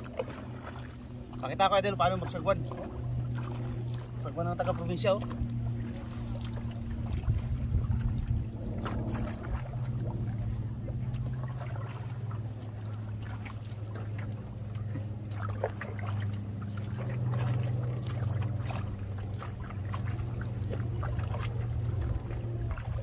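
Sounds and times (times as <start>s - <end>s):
paddle strokes splashing: 0.0s - 23.0s
steady low hum: 0.0s - 23.0s.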